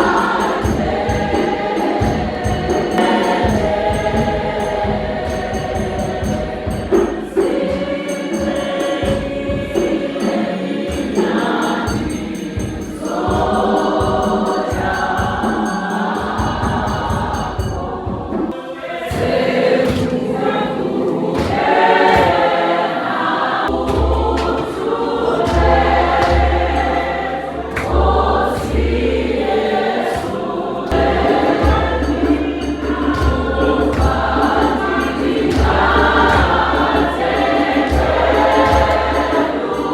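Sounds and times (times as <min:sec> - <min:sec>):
fast high percussion ticking: 0:00.0 - 0:20.7, 0:23.7 - 0:39.9
choir singing gospel music: 0:00.0 - 0:39.9.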